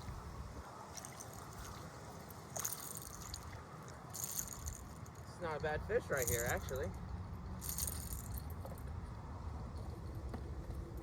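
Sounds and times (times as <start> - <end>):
river water low rumble: 0.0 - 11.0.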